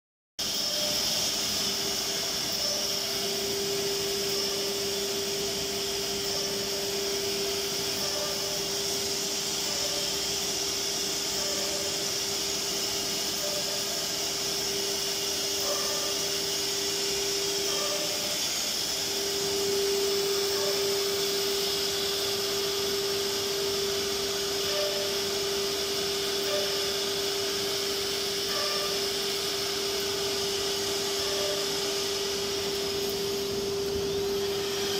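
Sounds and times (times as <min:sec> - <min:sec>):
dust extraction hiss: 0:00.4 - 0:34.9
router spindle whine: 0:00.4 - 0:34.9.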